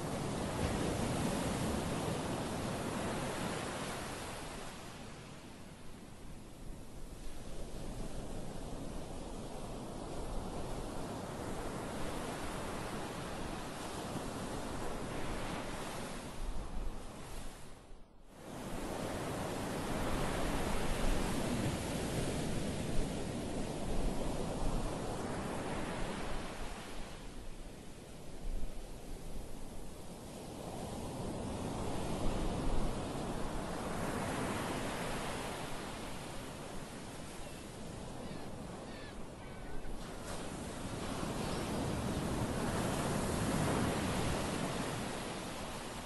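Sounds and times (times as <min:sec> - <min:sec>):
waves washing on a beach: 0:00.0 - 0:17.8, 0:18.4 - 0:46.0.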